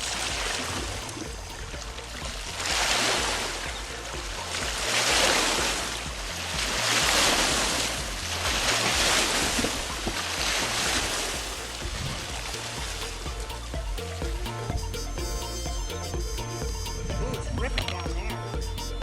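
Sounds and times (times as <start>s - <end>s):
waves washing against shore: 0.0s - 18.4s.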